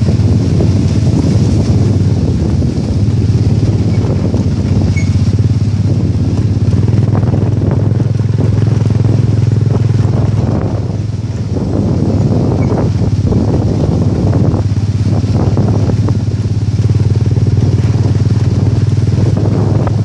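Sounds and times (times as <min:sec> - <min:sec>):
off-road vehicle engine puttering: 0:00.0 - 0:20.0
vehicle rattle: 0:00.0 - 0:20.0.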